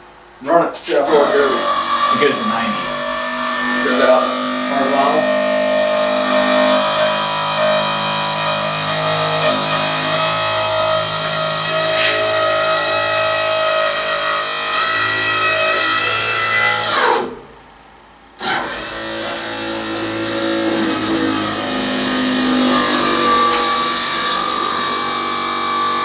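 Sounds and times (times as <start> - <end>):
hydraulic pump motor humming: 0.8 - 17.6, 18.4 - 26.0.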